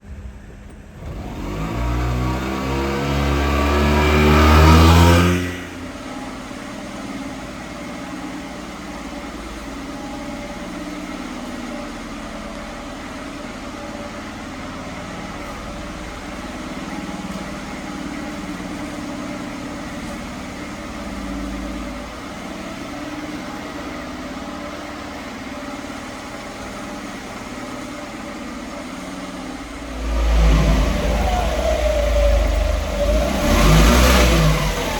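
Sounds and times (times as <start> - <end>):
truck engine revving and idling: 0.0 - 34.9.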